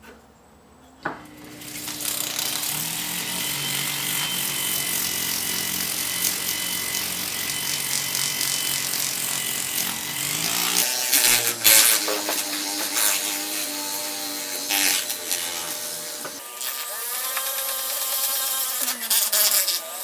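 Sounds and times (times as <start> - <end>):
rotary tool grinding metal: 1.2 - 20.0.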